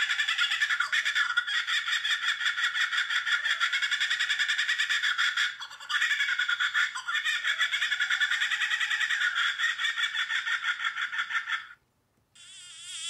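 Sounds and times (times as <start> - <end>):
kookaburra laughing call: 0.0 - 11.8.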